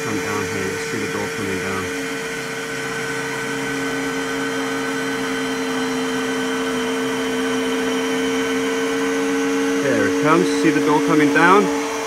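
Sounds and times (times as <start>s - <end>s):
electric motor hum with whine: 0.0s - 12.0s.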